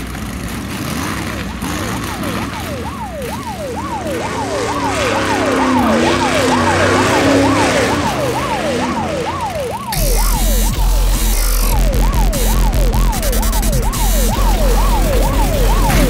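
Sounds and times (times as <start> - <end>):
lower siren wail: 1.0 - 16.0
siren in a fast yelp: 1.3 - 16.0.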